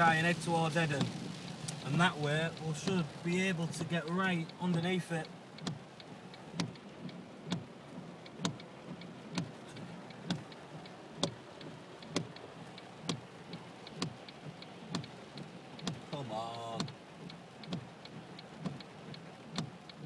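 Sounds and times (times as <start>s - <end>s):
rain hiss: 0.0s - 20.0s
ticking clicks in car cabin: 0.0s - 20.0s
tyres on wet road: 0.0s - 20.0s.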